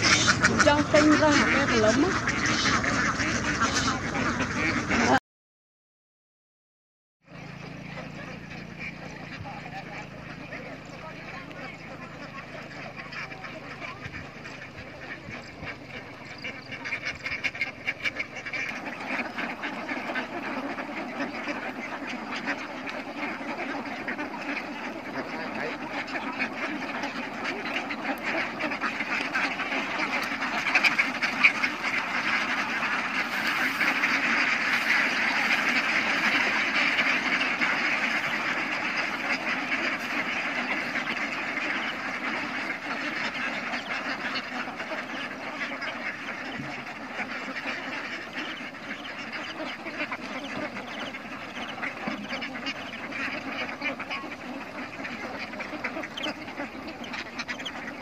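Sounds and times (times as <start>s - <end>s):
flock of ducks quacking: 0.0s - 5.2s, 7.3s - 58.0s.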